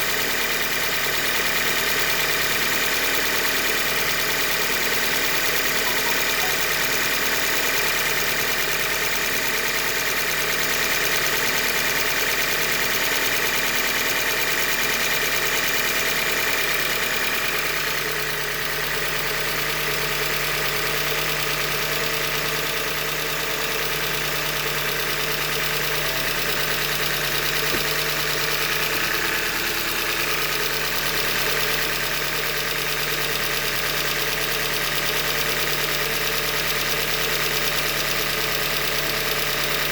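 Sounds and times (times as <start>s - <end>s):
car engine running with knock: 0.0s - 39.9s.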